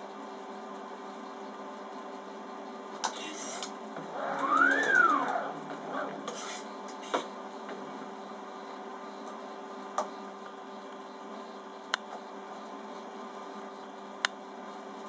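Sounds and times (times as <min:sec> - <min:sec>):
wire-twisting machine motor hum: 0:02.6 - 0:15.0.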